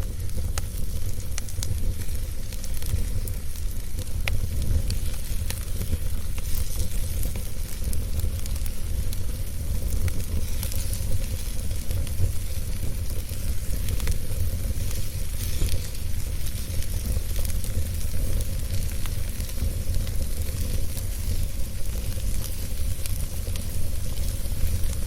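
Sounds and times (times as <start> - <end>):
wood fire crackling and hissing: 0.0 - 25.0.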